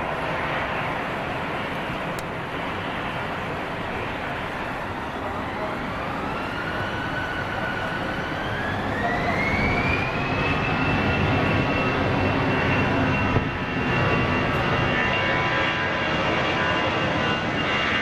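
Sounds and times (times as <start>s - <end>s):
jet engines spooling up: 0.1s - 18.0s.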